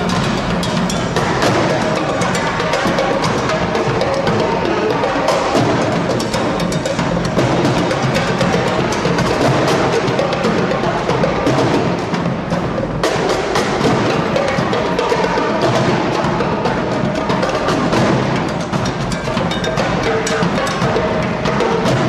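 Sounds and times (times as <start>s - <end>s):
snare and bass drums playing: 0.0s - 22.0s.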